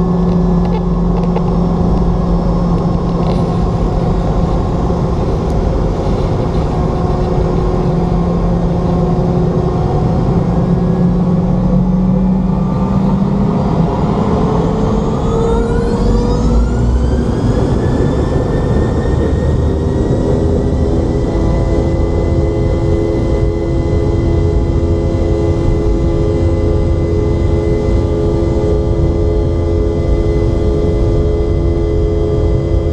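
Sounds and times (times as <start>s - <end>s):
jet engine whine rising: 0.0s - 32.9s
jet engines droning in cabin: 0.0s - 32.9s.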